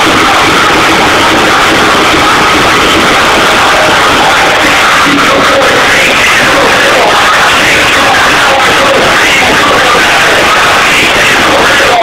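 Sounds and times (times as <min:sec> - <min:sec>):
loud electronic club music: 0:00.0 - 0:12.0.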